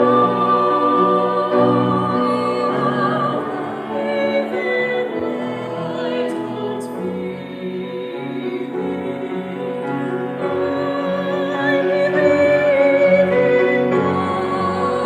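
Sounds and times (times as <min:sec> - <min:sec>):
slow classical music: 0:00.0 - 0:15.0.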